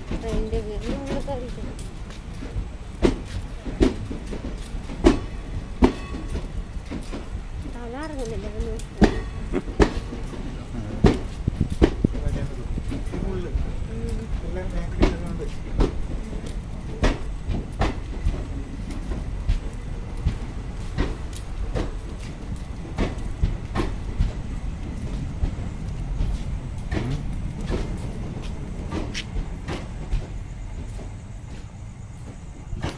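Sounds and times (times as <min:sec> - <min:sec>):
train coaches rumbling: 0:00.0 - 0:32.9
wheel clicks over rail joints: 0:00.0 - 0:32.9.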